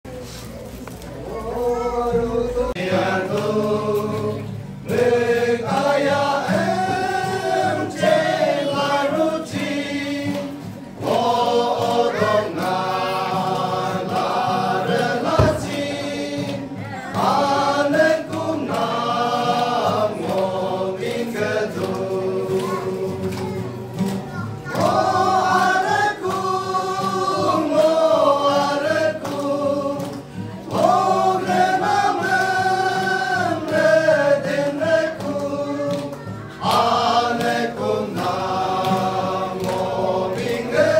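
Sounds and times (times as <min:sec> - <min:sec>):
strummed acoustic guitar: 0:00.1 - 0:40.9
men's choir singing gospel: 0:01.3 - 0:40.9.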